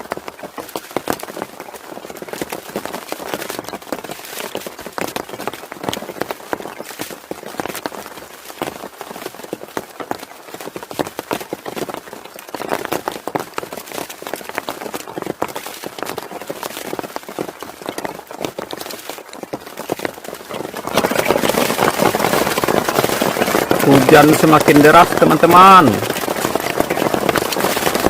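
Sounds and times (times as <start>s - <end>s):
heavy rain on a roof: 0.0s - 28.0s.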